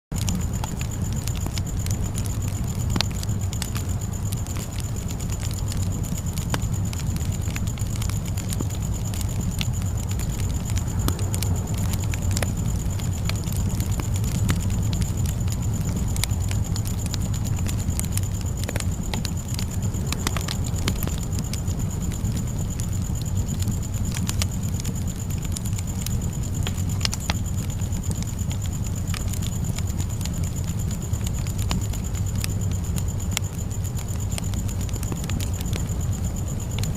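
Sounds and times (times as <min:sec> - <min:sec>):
fire flames rumbling: 0:00.1 - 0:36.9
wood crackling and popping: 0:00.1 - 0:36.9.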